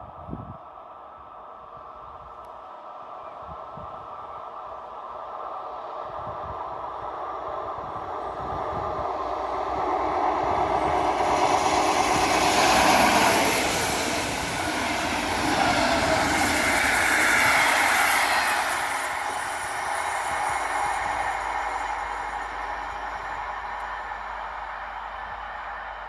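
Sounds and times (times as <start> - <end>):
train passing on rails: 0.0 - 26.0.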